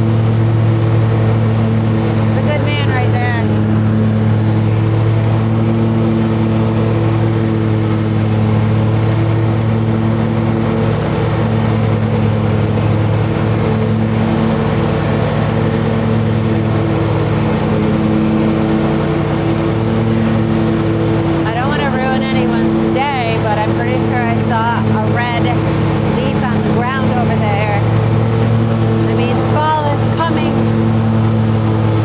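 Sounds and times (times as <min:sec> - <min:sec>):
riding lawn mower engine: 0:00.0 - 0:32.0.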